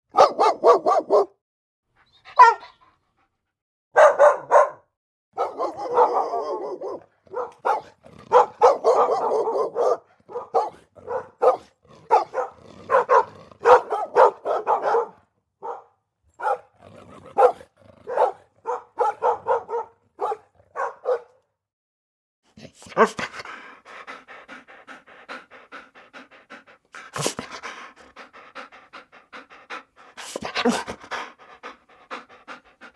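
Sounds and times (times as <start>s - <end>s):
dogs barking: 0.1s - 1.4s, 2.4s - 2.7s, 4.0s - 4.8s, 5.4s - 21.4s, 22.9s - 32.9s.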